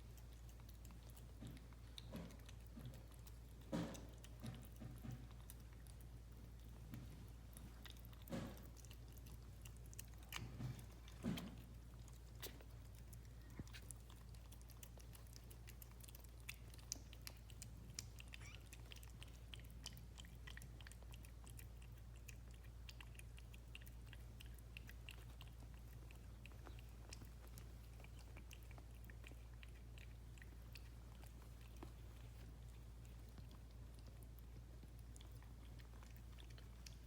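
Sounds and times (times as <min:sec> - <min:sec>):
cats eating wet clicking: 0:00.0 - 0:37.0.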